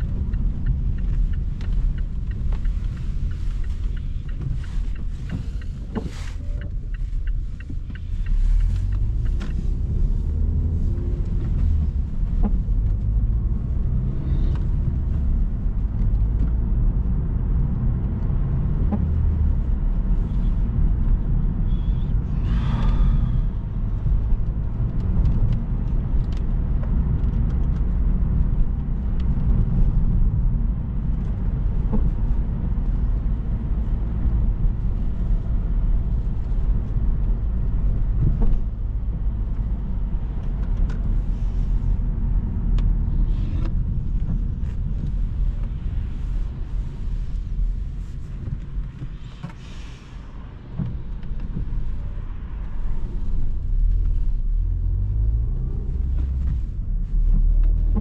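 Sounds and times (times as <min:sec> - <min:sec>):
engine and tyres rumbling: 0:00.0 - 0:58.0.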